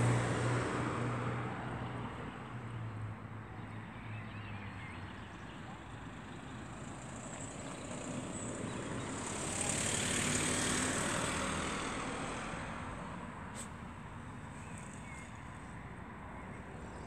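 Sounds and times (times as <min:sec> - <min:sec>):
passing vehicle: 0:00.0 - 0:17.0.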